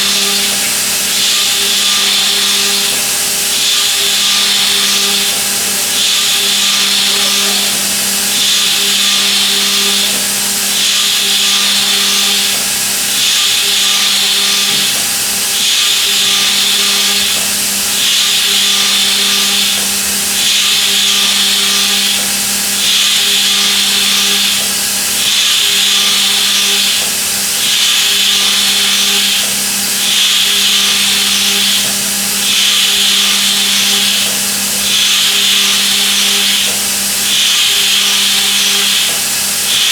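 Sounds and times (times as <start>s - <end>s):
hissing cutting noise: 0.0s - 39.9s
milling machine hum: 0.0s - 39.9s.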